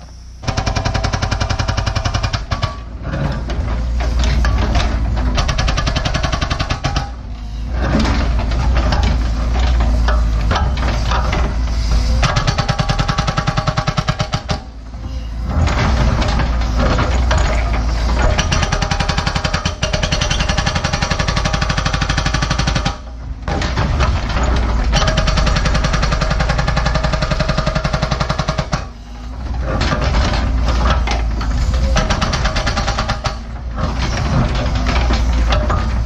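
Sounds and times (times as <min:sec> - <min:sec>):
excavator engine: 0:00.0 - 0:36.0
hydraulic hammer pounding rock: 0:00.4 - 0:36.0.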